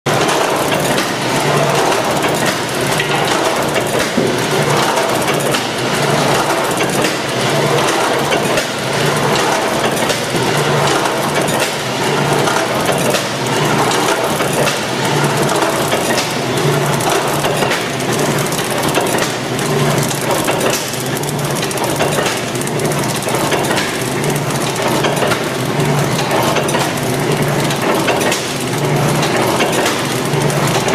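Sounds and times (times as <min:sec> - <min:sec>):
packing machine clattering: 0:00.1 - 0:30.9.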